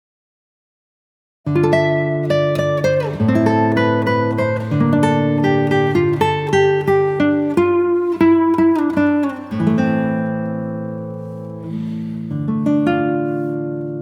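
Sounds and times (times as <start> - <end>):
acoustic guitar music: 1.5 - 14.0.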